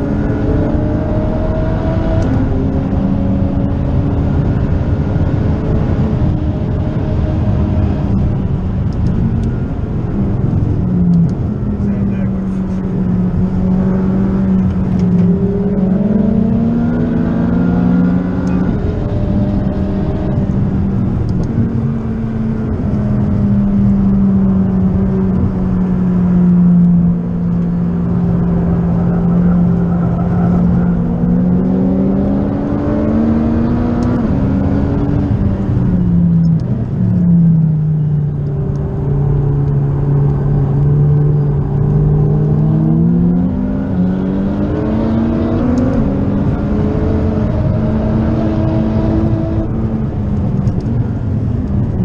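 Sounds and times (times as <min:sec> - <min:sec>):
sports car engine revving: 0:00.0 - 0:52.0.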